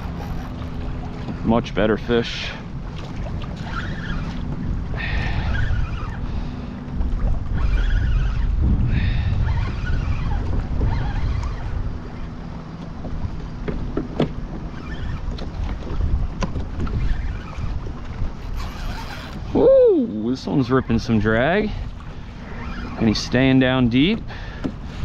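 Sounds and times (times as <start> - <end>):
water lapping against kayak hull: 0.0 - 25.0
wind buffeting microphone: 0.0 - 25.0.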